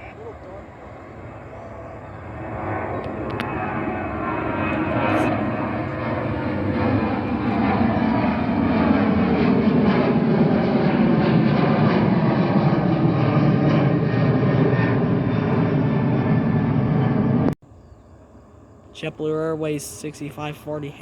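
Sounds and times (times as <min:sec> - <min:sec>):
jet engines roaring: 0:00.0 - 0:17.6, 0:18.4 - 0:21.0.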